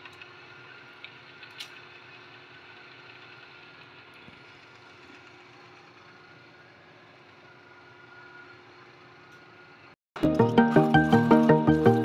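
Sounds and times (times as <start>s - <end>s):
faint mechanical hum with hiss: 0.0s - 10.0s.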